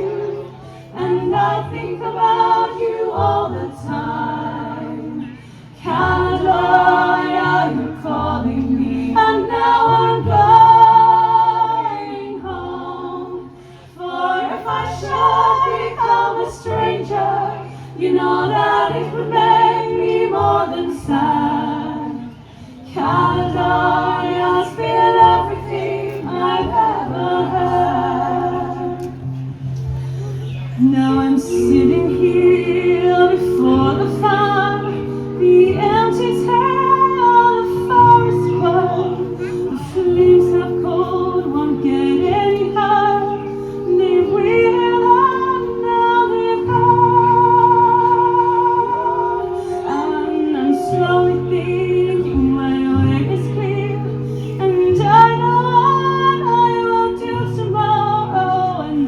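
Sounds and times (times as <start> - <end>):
vocal group singing in harmony: 0.0 - 59.0
woman singing lead: 0.0 - 59.0.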